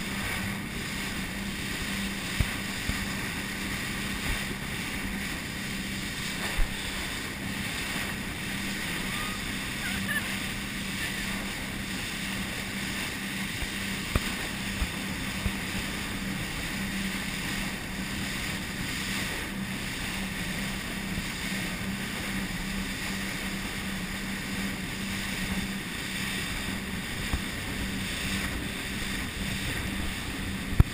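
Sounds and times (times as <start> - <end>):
motorboat engine drone: 0.0 - 30.9
spray and wake rushing: 0.0 - 30.9
wind buffeting microphone: 0.0 - 30.9.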